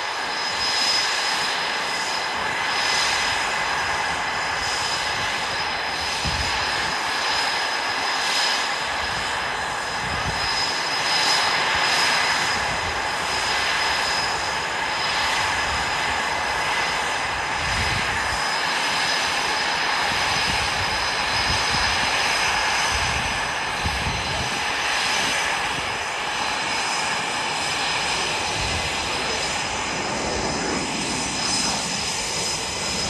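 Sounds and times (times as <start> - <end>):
jet engines with turbine whine: 0.0 - 33.0.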